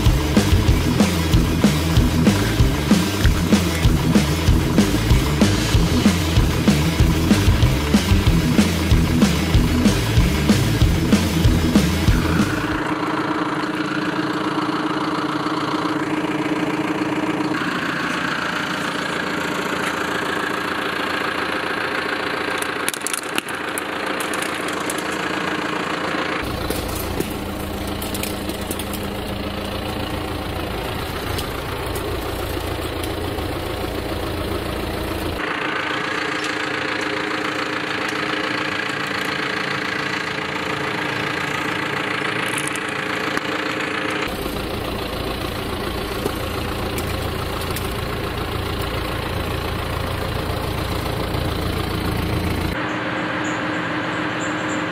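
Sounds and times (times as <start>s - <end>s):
tractor diesel engine idling: 0.0s - 54.9s.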